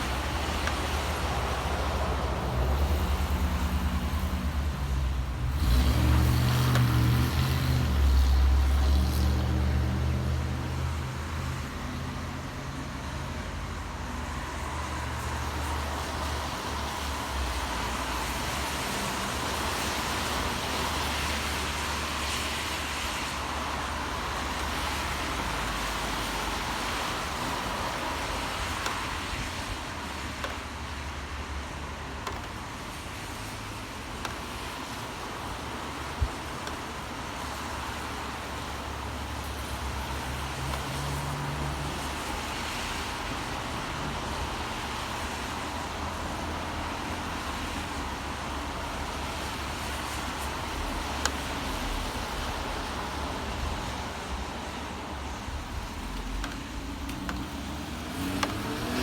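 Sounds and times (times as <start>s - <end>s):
rain hiss: 0.0s - 32.2s, 32.8s - 59.0s
passing vehicles rumbling: 0.0s - 59.0s.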